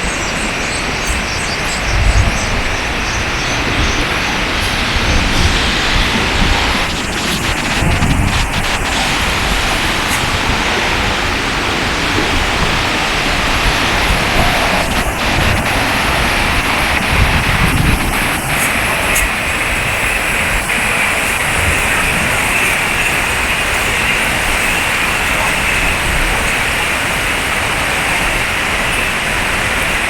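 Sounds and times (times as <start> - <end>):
waterfall rushing: 0.0 - 30.0
wind rumbling on microphone: 0.0 - 30.0.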